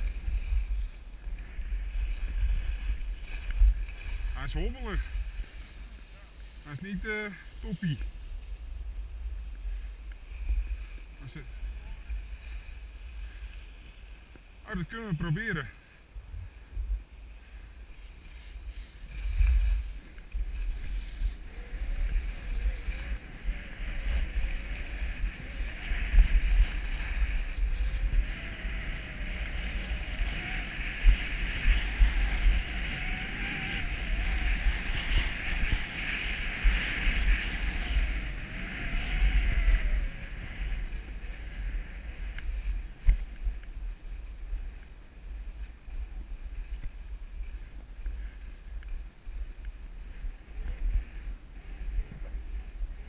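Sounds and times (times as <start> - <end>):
skis scraping over snow: 0.0 - 53.0
wind buffeting microphone: 0.0 - 53.0.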